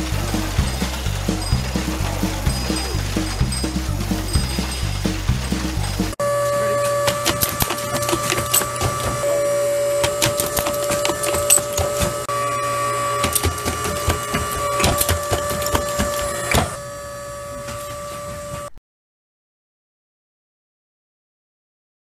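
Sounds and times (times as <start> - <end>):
forming machine humming and clacking: 0.0 - 18.7.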